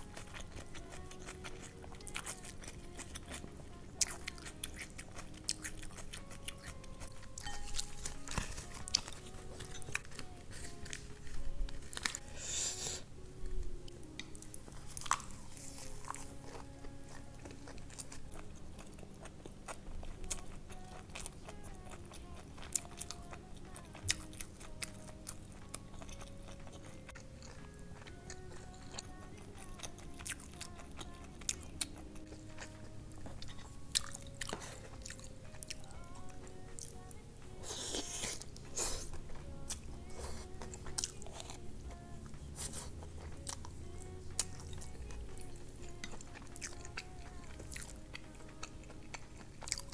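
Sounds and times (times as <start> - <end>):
chewing and crunching food: 0.0 - 49.9
soft background music: 0.0 - 49.9.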